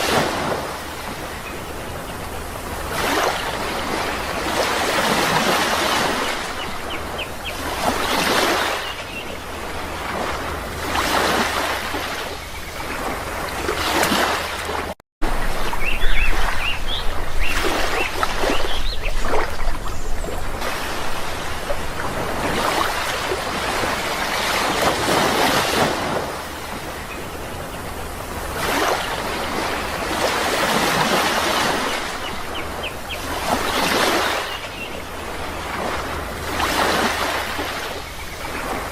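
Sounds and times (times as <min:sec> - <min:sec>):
sea waves surging: 0:00.0 - 0:38.9.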